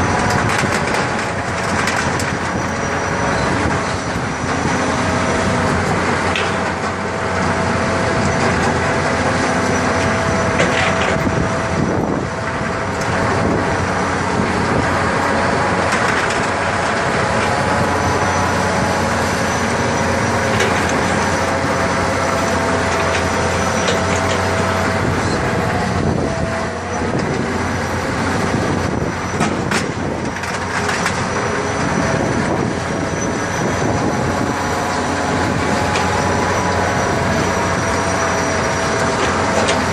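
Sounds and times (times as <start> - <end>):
digging machine running with whine: 0.0 - 39.9.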